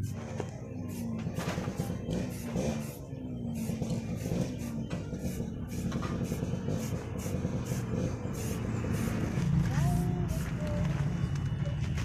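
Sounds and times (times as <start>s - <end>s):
spray can hissing: 0.0s - 3.0s, 3.6s - 10.5s.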